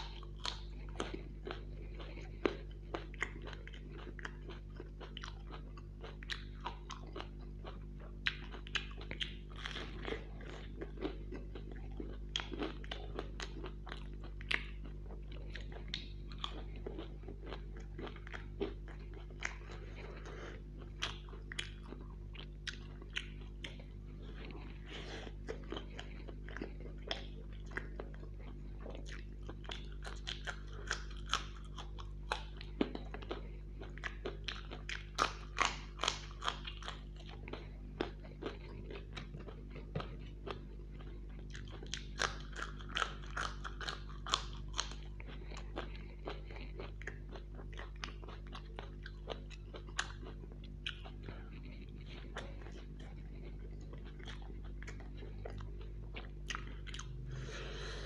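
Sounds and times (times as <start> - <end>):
crunching and chewing food: 0.0 - 58.0
steady low hum: 0.0 - 58.0.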